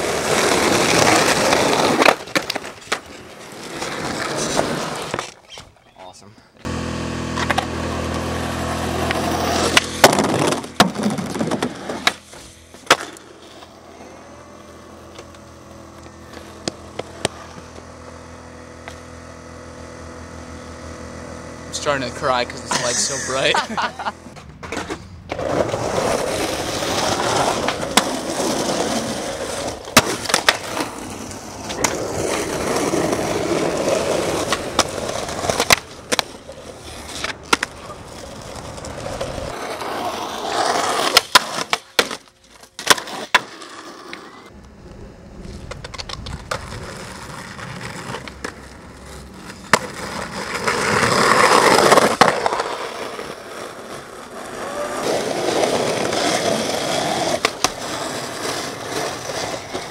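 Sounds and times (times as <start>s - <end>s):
skateboard popping and landing: 0.0s - 5.8s, 7.3s - 19.4s, 24.3s - 59.9s
skateboard wheels rolling on asphalt: 0.0s - 6.0s, 6.6s - 59.9s.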